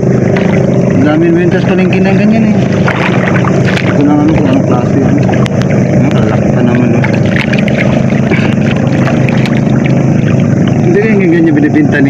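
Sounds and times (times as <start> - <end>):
low motor drone: 0.0 - 12.0.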